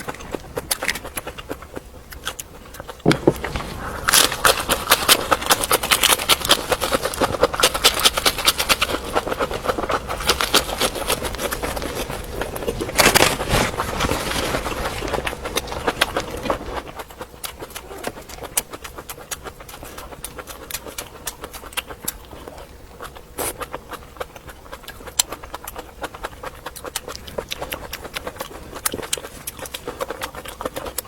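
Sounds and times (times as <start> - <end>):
crunchy food being chewed: 0.0 - 31.0.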